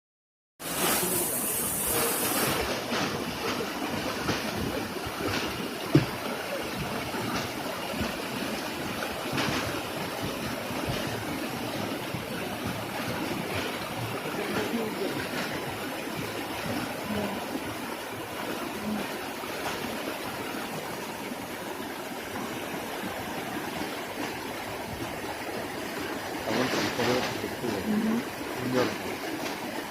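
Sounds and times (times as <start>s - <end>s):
waterfall rushing: 0.6s - 29.9s.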